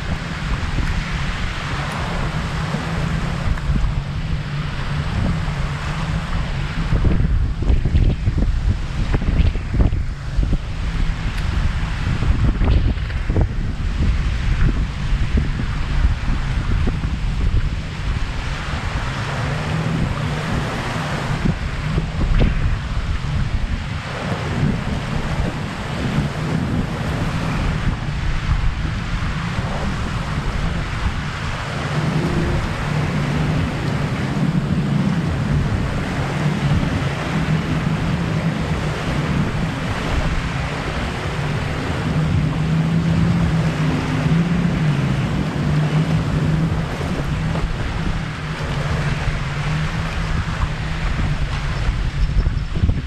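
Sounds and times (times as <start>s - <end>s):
small waves lapping shore: 0.0s - 52.8s
low droning hum: 0.0s - 53.0s
wind buffeting microphone: 0.0s - 53.0s.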